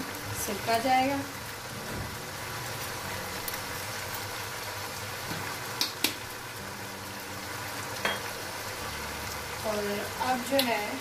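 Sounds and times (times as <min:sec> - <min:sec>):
sauce bubbling: 0:00.0 - 0:11.0.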